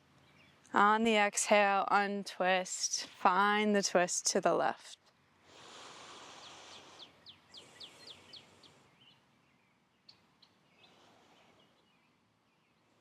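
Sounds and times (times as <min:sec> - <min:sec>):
soft hiss: 0:01.6 - 0:13.0.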